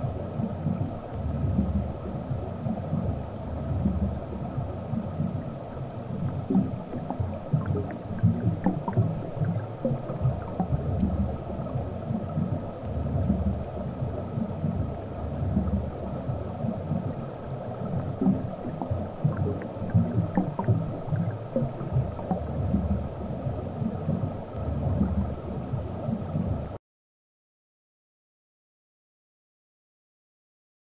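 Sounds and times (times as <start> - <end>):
faint clicks and crackles: 0.0 - 26.8
underwater low rumble: 0.0 - 26.8.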